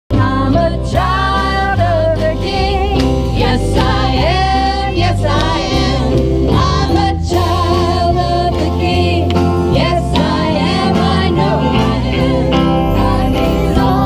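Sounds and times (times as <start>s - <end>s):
drums: 0.1s - 14.0s
electric guitar: 0.1s - 14.0s
women singing harmony: 0.1s - 14.0s.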